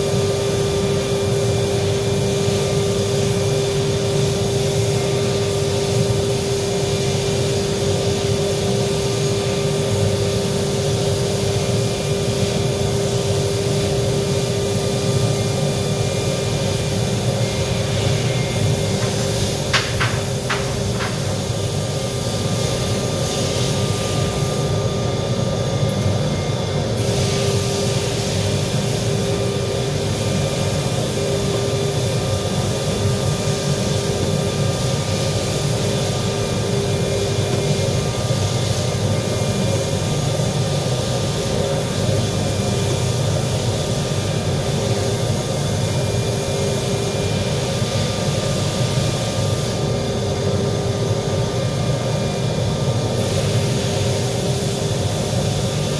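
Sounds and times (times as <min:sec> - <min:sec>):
welding equipment droning: 0:00.2 - 0:50.4.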